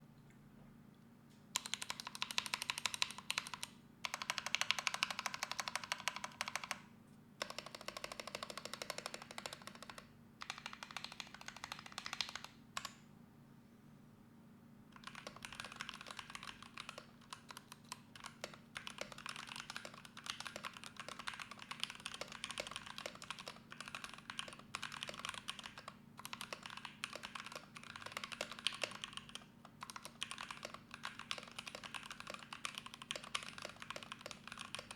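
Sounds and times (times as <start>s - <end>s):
typing on mechanical keyboard: 1.6s - 6.8s, 7.4s - 13.0s, 15.0s - 34.9s.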